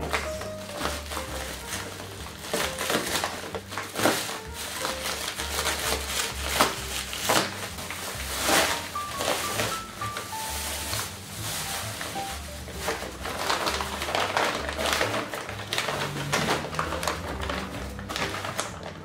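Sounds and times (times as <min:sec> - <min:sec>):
background music with bass line: 0:00.0 - 0:19.0
plastic bag and bubble wrap crinkling: 0:00.0 - 0:19.0.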